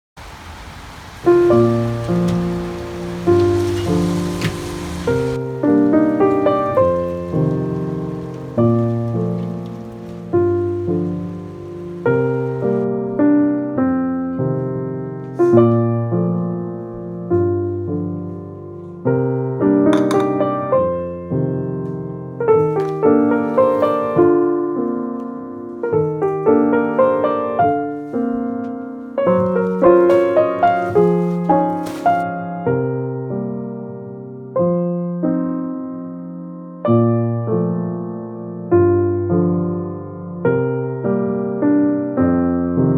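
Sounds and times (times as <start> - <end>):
slow gentle piano music: 0.5 - 42.9.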